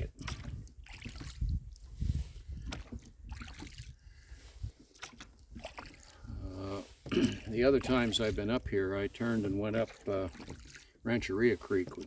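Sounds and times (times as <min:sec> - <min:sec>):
oars splashing through water: 0:00.0 - 0:12.0.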